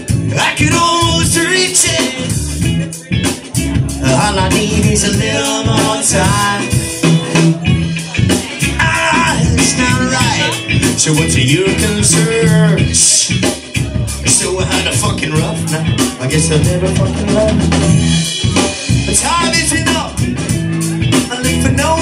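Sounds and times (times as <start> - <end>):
live band playing: 0.0 - 22.0
man singing: 0.0 - 22.0.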